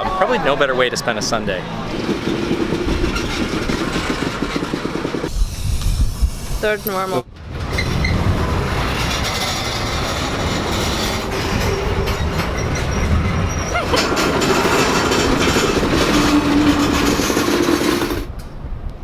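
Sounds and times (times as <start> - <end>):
train rumbling with wheel clatter: 0.0 - 19.0
train wheels squealing: 0.2 - 7.0, 8.9 - 18.3.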